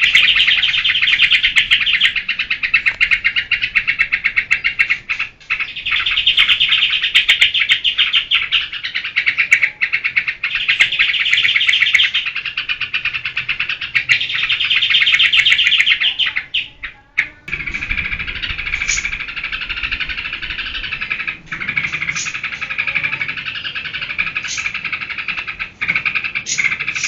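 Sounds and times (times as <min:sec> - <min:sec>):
bird buzzy chatter: 0:00.0 - 0:27.0.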